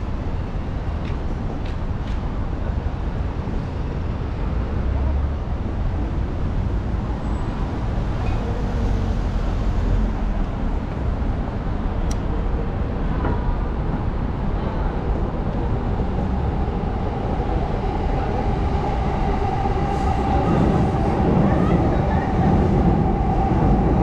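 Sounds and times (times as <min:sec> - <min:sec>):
street traffic noise: 0:00.0 - 0:24.0
train rumbling: 0:00.0 - 0:24.0.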